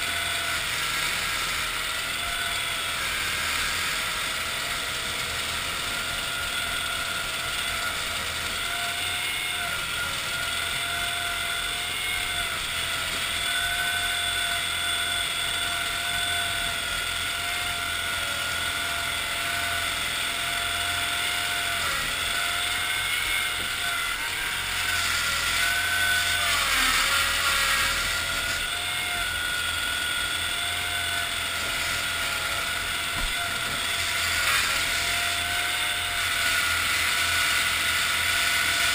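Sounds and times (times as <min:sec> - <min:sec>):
tracked vehicle engine running: 0:00.0 - 0:37.0.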